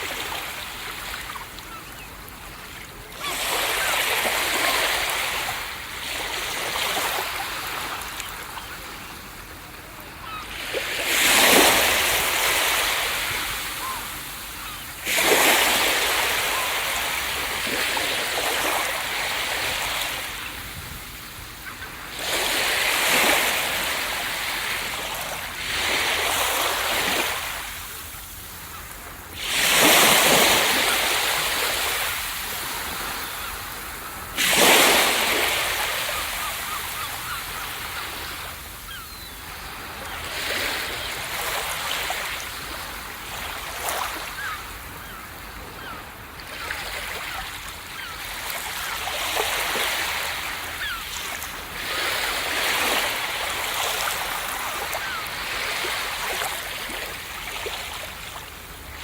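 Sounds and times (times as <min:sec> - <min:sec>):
ocean waves crashing on beach: 0:00.0 - 0:59.0.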